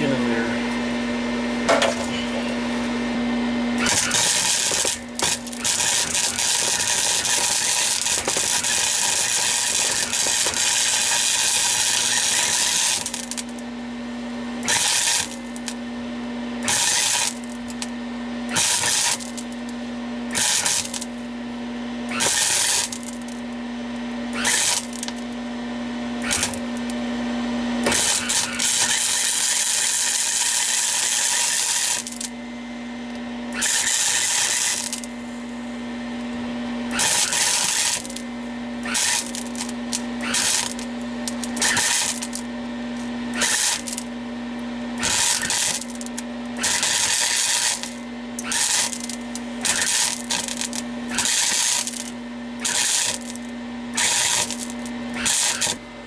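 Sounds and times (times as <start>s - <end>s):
welder hum: 0.0s - 56.0s
welding arc crackling: 1.5s - 13.7s, 14.4s - 15.9s, 16.6s - 32.4s, 33.5s - 55.9s.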